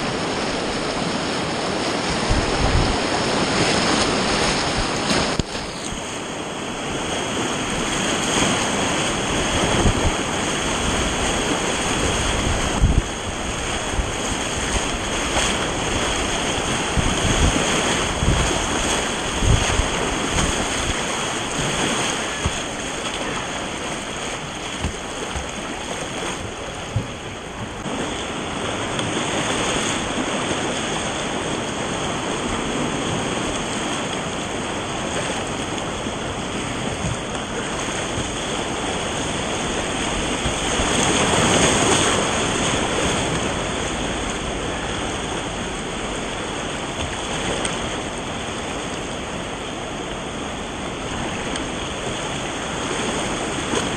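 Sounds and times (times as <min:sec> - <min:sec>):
whitewater rushing and splashing: 0:00.0 - 0:53.9.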